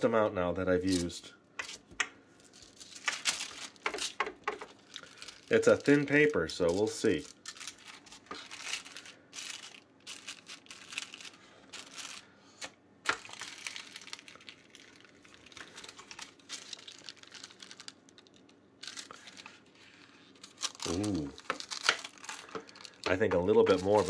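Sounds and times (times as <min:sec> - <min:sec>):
paper crinkling: 0:00.9 - 0:24.0.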